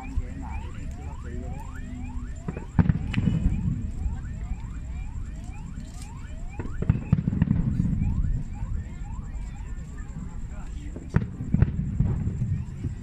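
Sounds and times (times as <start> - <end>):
fireworks bursting: 0.0 - 9.1, 10.5 - 13.0.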